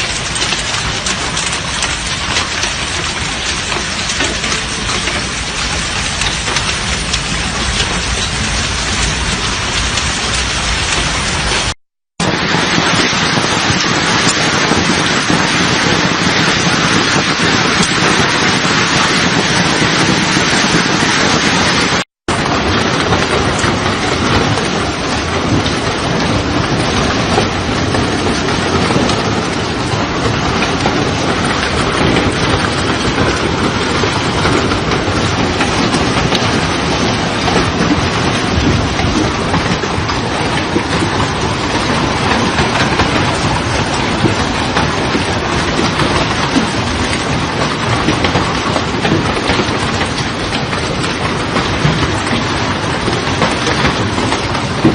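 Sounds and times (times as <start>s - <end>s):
heavy hail clattering: 0.0s - 54.9s.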